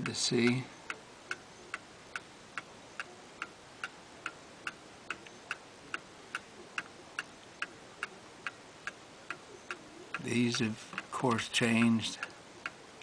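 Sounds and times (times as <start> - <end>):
mechanical clock ticking: 0.0 - 12.8.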